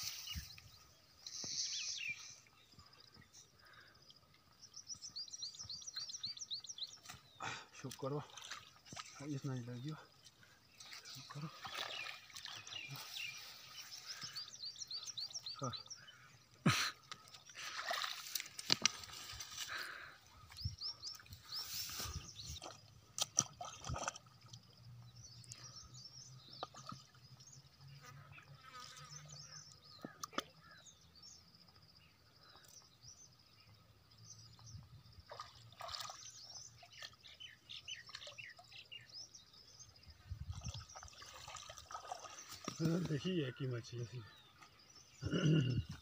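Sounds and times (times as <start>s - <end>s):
birds chirping: 0.0s - 46.0s
faint water splashes and drips: 2.3s - 16.3s, 17.0s - 30.8s, 34.6s - 45.0s.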